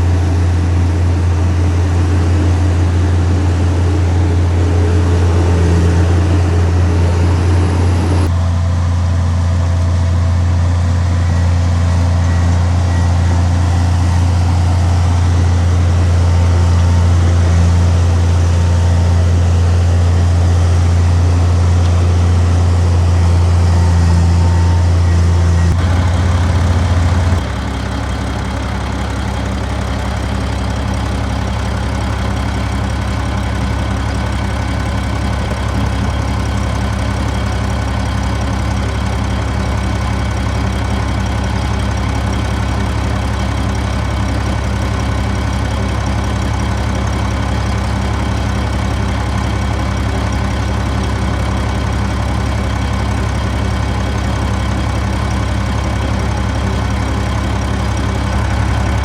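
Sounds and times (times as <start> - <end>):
heavy diesel engine idling: 0.0 - 59.0.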